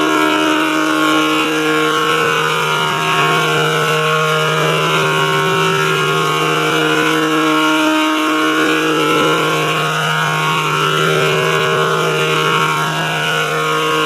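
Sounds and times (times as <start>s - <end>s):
electronic drone: 0.0s - 14.0s.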